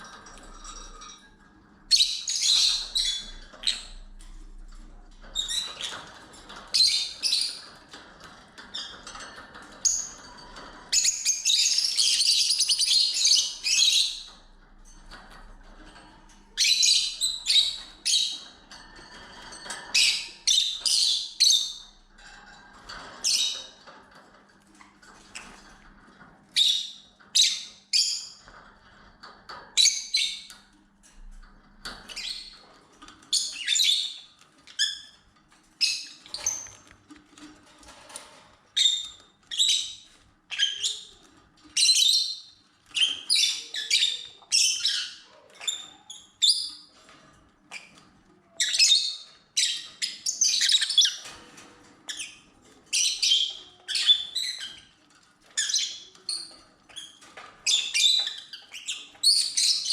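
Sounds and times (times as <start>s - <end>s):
lovebirds chirping and squawking: 0.0s - 59.9s.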